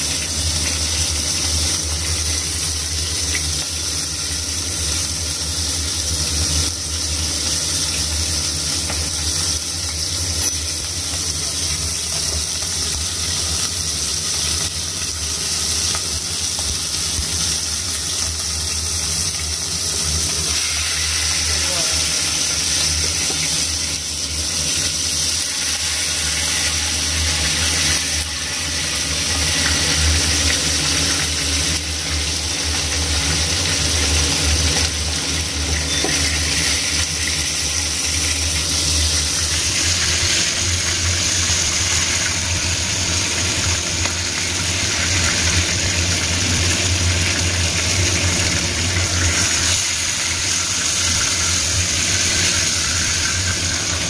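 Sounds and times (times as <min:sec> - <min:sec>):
low mechanical hum: 0:00.0 - 0:54.0
steak sizzling in a frying pan: 0:00.0 - 0:54.0.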